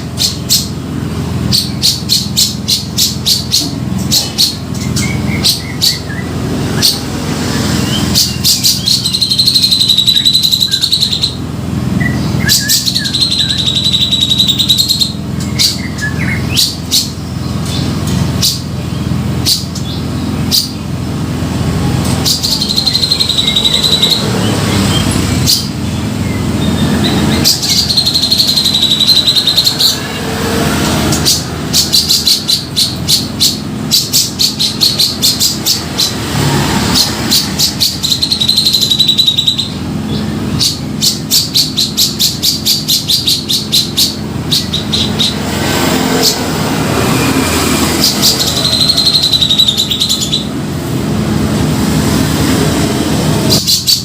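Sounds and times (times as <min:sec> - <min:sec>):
bird singing: 0:00.0 - 0:50.9, 0:53.4 - 0:54.0.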